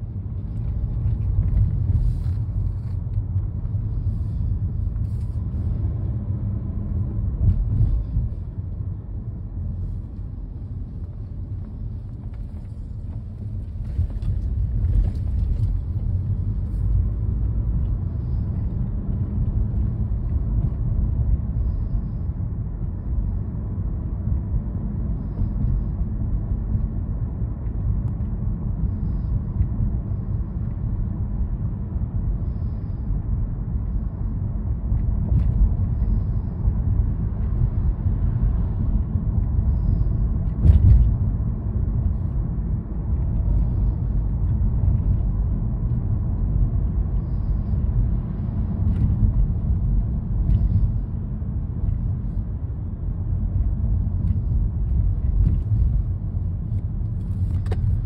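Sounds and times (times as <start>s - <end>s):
car cabin road rumble: 0.0s - 58.0s.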